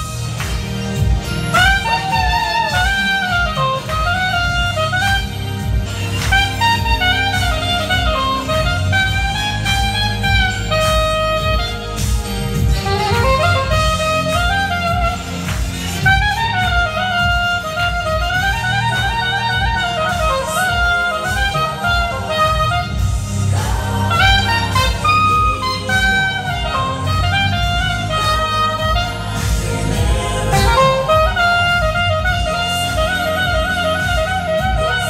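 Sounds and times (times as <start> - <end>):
saxophone playing jazz melody: 0.0 - 35.0.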